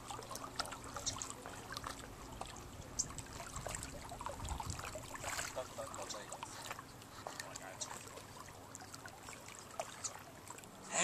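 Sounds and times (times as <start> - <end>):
small waves lapping on rocks: 0.0 - 11.0.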